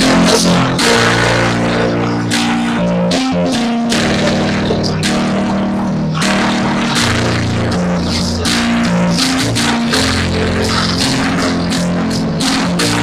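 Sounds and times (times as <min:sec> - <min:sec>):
worship band playing: 0:00.0 - 0:13.0.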